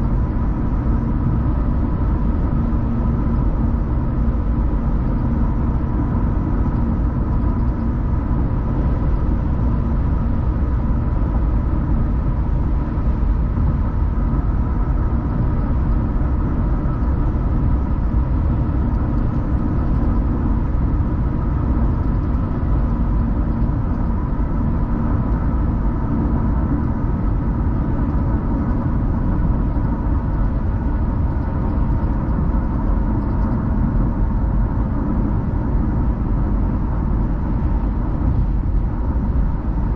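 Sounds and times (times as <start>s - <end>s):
car engine and road noise: 0.0s - 39.9s
faint steady hum: 0.0s - 39.9s.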